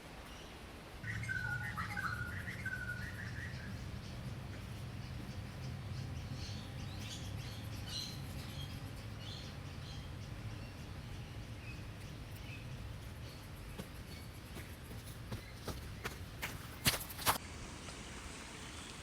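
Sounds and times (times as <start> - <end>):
small birds chirping: 0.2 - 17.4.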